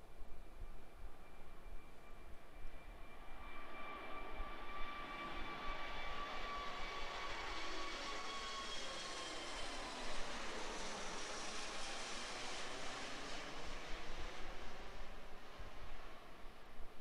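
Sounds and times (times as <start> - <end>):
jet engine noise overhead: 0.4 - 17.0.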